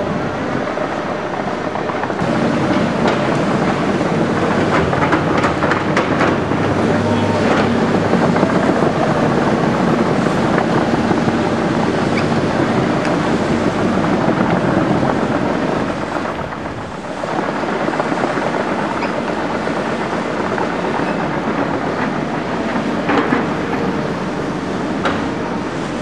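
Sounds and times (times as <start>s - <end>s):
heavy diesel machinery running: 0.0s - 26.0s
wind on microphone: 0.0s - 26.0s.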